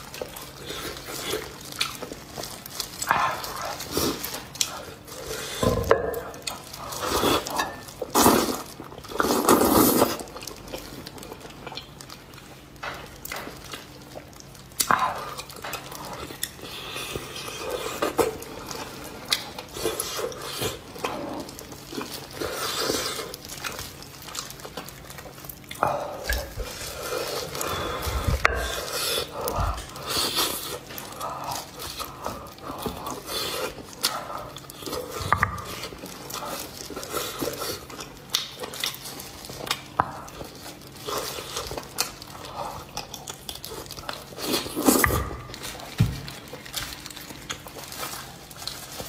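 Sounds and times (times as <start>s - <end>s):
close-miked chewing and biting: 0.0s - 49.0s
plastic gloves crinkling: 0.0s - 49.0s.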